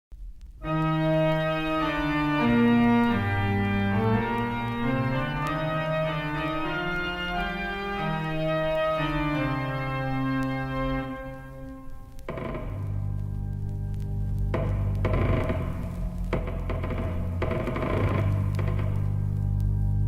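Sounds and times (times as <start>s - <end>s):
organ playing sustained chords: 0.6s - 20.0s.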